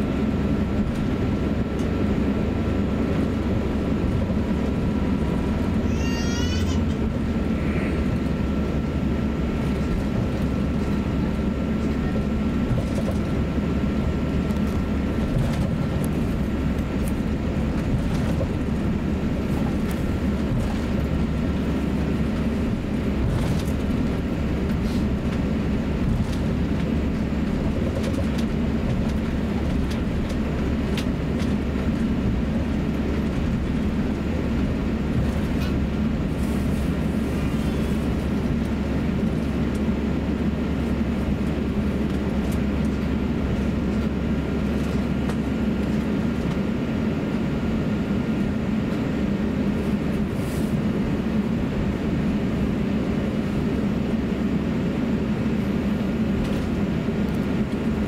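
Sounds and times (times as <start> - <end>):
aircraft cabin rumble: 0.0 - 58.0.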